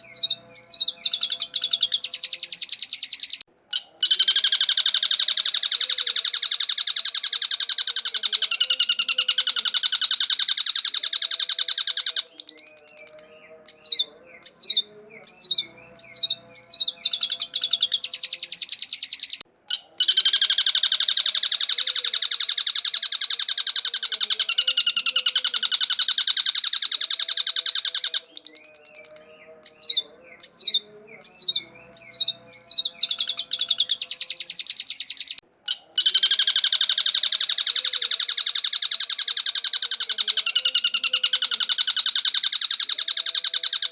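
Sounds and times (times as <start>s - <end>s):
shrike calling: 0.0s - 43.9s.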